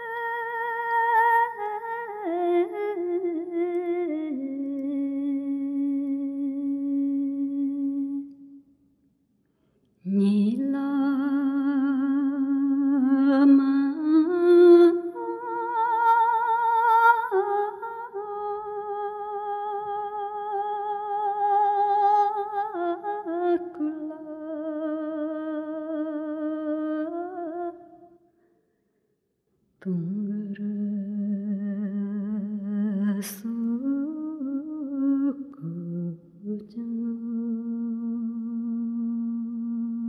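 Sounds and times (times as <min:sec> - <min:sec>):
person singing with vibrato: 0:00.0 - 0:08.5, 0:10.1 - 0:28.0, 0:29.8 - 0:40.0.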